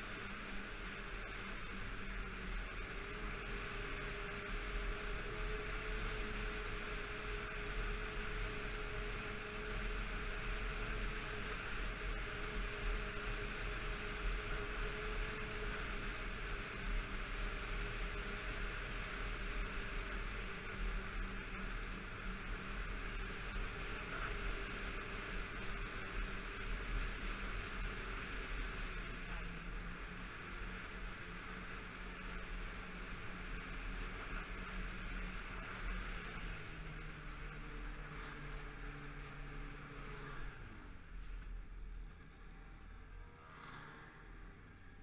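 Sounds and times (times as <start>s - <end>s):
rushing wind and track noise: 0.0s - 45.0s
snowmobile engine droning: 0.0s - 45.0s.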